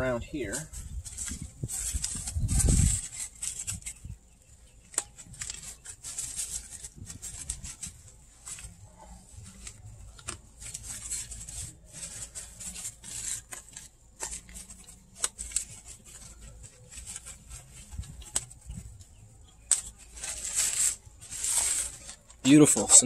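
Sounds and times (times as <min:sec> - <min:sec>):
plastic bag rustling and crinkling: 0:00.0 - 0:23.0.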